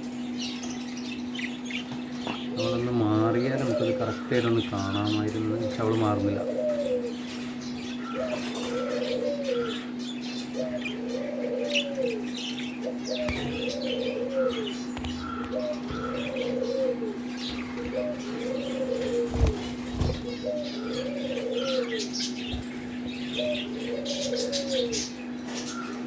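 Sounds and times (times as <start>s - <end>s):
cage birds chirping: 0.0s - 26.0s
steady low hum: 0.0s - 26.0s
dove cooing: 2.5s - 26.0s.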